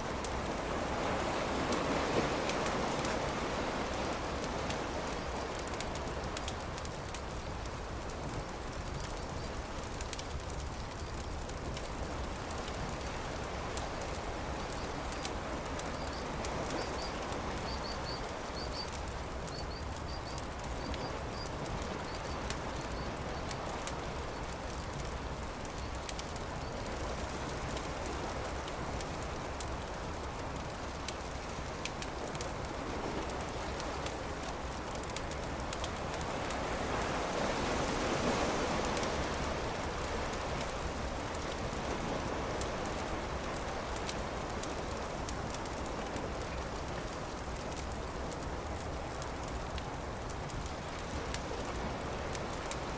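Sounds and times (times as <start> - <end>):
campfire crackling and popping: 0.0 - 52.9
surf washing: 0.0 - 52.9.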